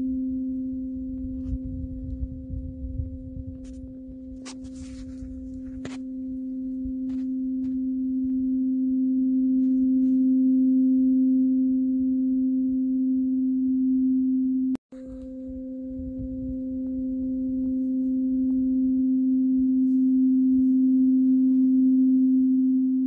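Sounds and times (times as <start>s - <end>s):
tuning fork ringing: 0.0s - 23.0s.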